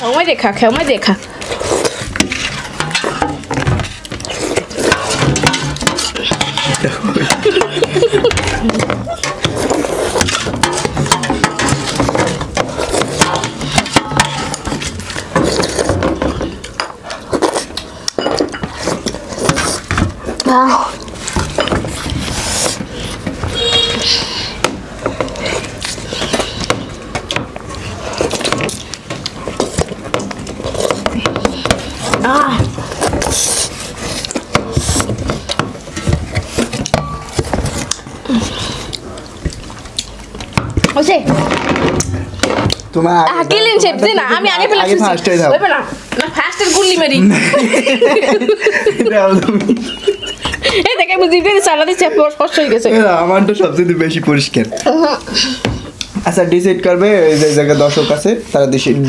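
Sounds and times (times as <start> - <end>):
plates clinking and scraping: 0.1 - 20.4, 21.0 - 45.3, 46.0 - 50.9.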